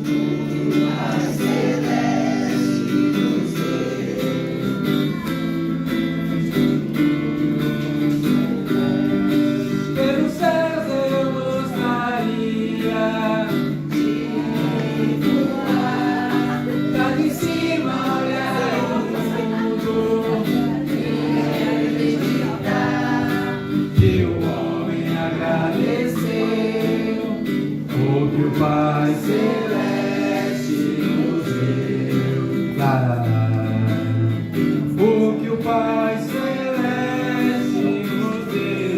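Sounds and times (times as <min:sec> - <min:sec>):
acoustic guitar strummed: 0:00.0 - 0:38.9
person singing gospel: 0:00.0 - 0:38.9.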